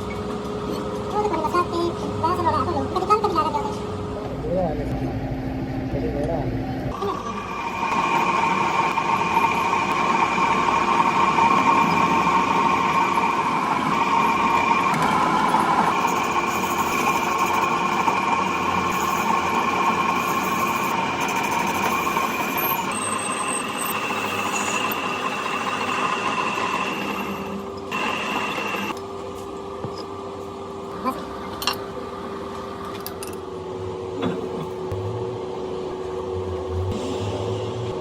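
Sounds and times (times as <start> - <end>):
workshop machine whining: 0.0 - 38.0.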